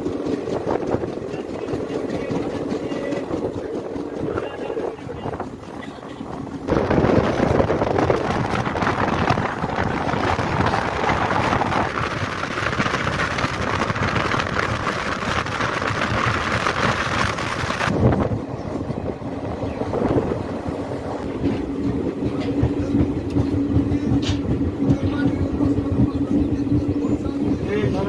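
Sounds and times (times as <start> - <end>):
wheels rumbling on track: 0.0 - 28.0
wind: 0.0 - 28.0.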